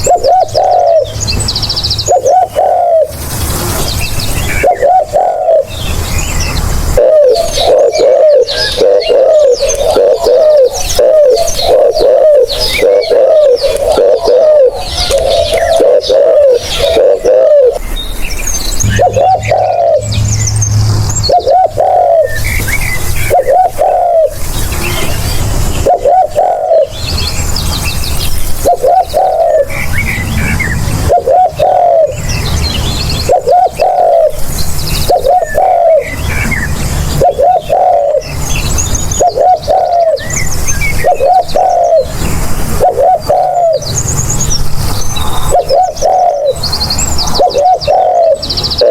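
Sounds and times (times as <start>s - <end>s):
dove cooing: 0.0s - 1.3s, 2.0s - 6.0s, 6.9s - 17.8s, 18.8s - 25.2s, 25.8s - 27.2s, 28.6s - 32.4s, 33.3s - 34.4s, 35.0s - 43.9s, 45.5s - 48.9s
small birds chirping: 0.0s - 48.9s.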